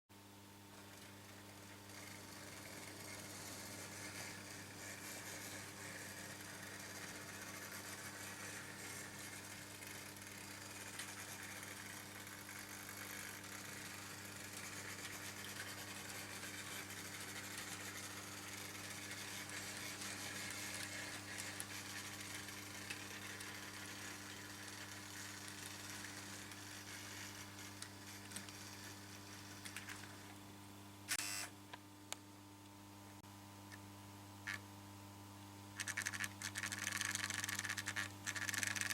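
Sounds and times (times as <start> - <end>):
model train wheels rattling: 0.8 - 30.2, 35.8 - 38.9.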